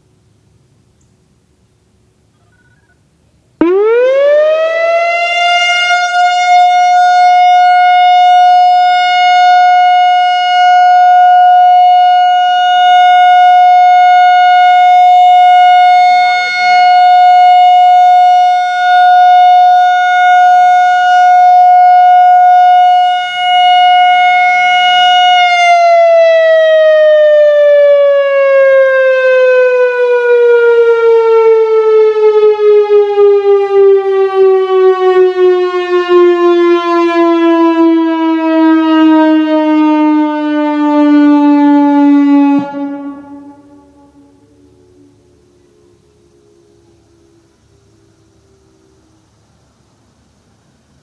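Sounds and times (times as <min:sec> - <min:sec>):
outdoor warning siren: 0:02.4 - 0:51.0.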